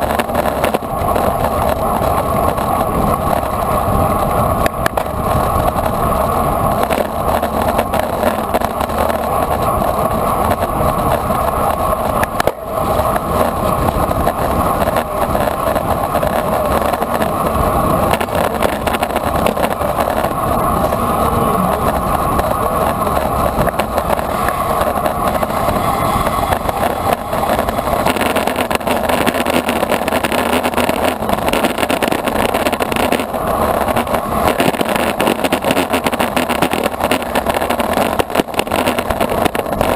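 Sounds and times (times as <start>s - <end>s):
road noise: 0.0s - 39.9s
wind rushing on microphone: 0.0s - 39.9s.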